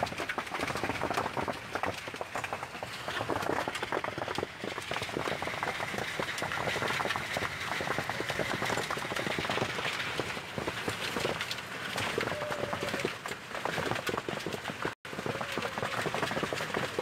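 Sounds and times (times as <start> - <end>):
hail and rain pelting: 0.0 - 17.0.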